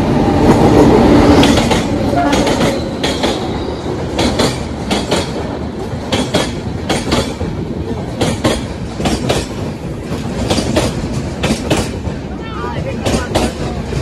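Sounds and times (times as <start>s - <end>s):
train wheels rumbling on rails: 0.0s - 14.0s
wheels clacking on rail joints: 1.3s - 14.0s.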